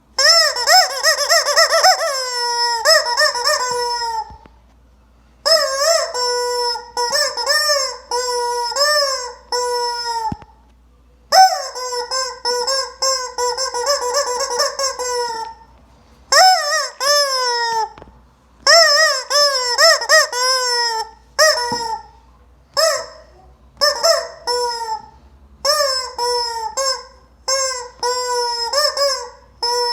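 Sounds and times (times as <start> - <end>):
rubber chicken toy squeaking: 0.2 - 4.4, 5.4 - 10.5, 11.3 - 15.7, 16.3 - 18.0, 18.6 - 29.9.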